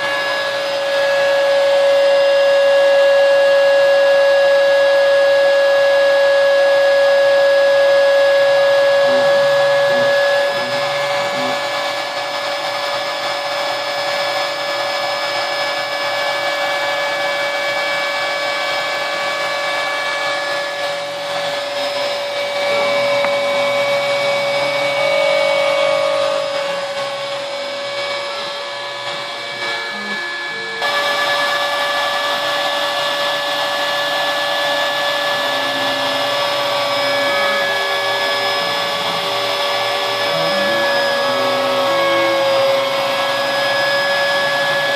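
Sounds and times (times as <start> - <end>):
spindle motor whining: 0.0 - 44.9
stepper motors humming: 0.0 - 44.9.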